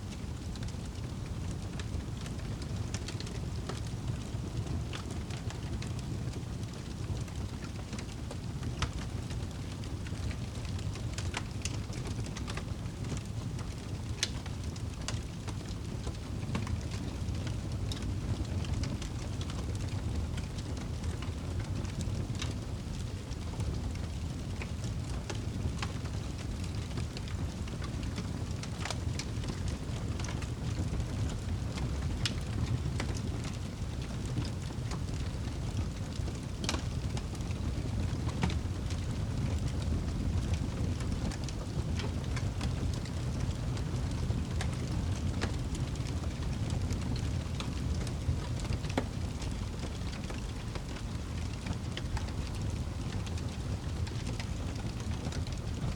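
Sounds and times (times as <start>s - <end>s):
wood fire crackling and popping: 0.1s - 55.9s.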